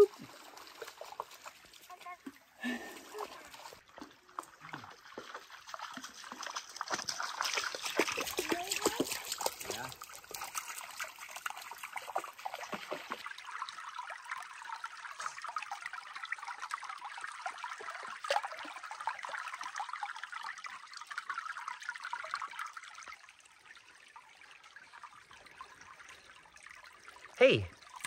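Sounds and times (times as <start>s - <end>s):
creek babbling over stones: 0.0s - 28.0s.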